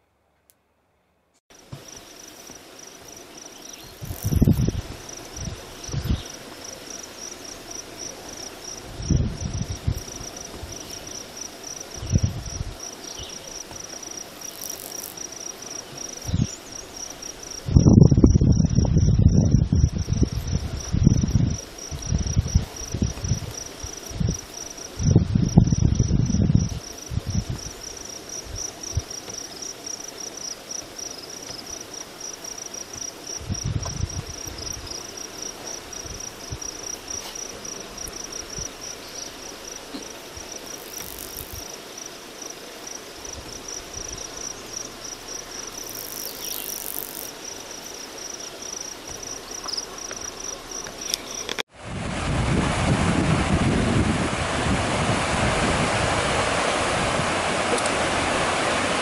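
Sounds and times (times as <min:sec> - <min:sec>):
insects trilling: 0:01.5 - 0:51.7.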